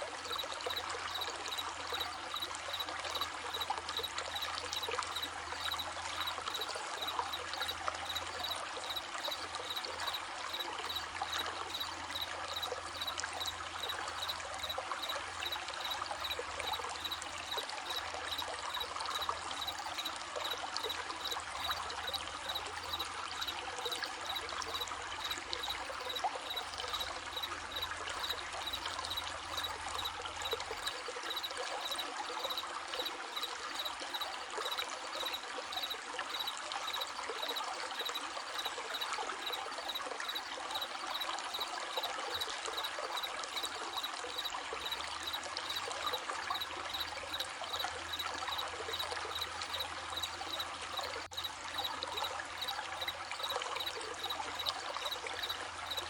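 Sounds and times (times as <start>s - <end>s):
crickets chirping: 0.0s - 56.0s
stream flowing: 0.0s - 56.0s.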